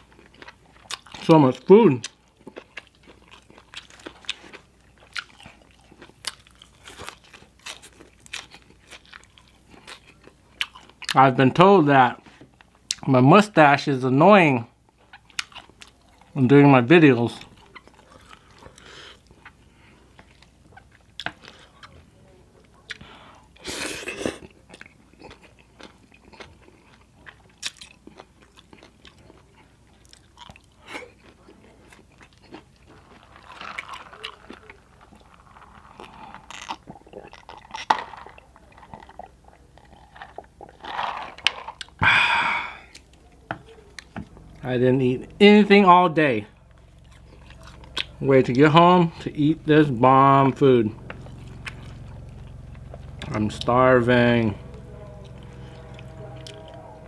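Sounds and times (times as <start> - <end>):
person chewing crunchy food: 0.0 - 11.2, 14.8 - 16.4, 17.4 - 45.3, 46.2 - 49.8, 50.9 - 53.6.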